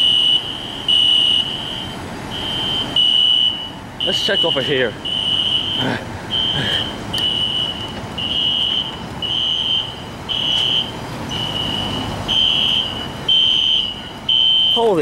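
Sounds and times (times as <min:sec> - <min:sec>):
fire alarm beeping: 0:00.0 - 0:14.9.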